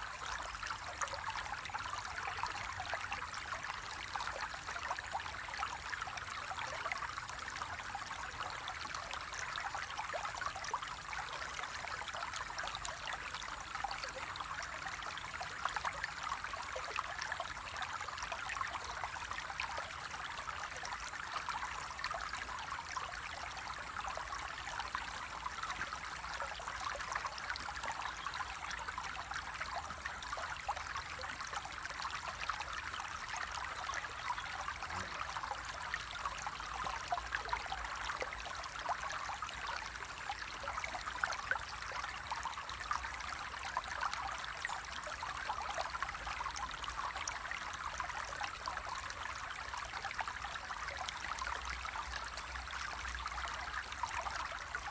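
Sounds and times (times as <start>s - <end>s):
water trickling and babbling: 0.0s - 54.9s.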